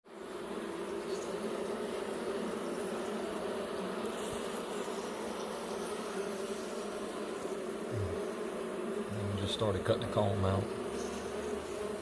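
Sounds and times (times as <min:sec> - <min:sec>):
honey bees buzzing: 0:00.1 - 0:12.0.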